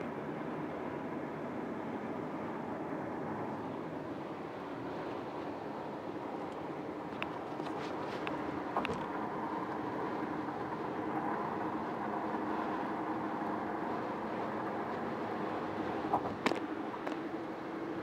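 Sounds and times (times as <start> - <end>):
car cruising road noise: 0.0 - 18.0.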